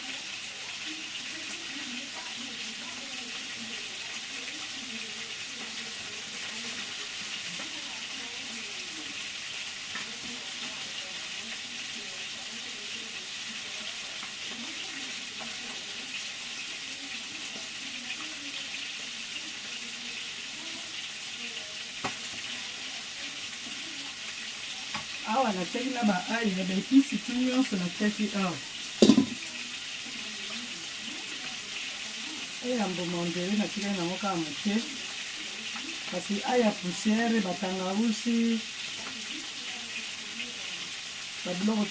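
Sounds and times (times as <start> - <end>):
onions sizzling in frying: 0.0 - 41.9.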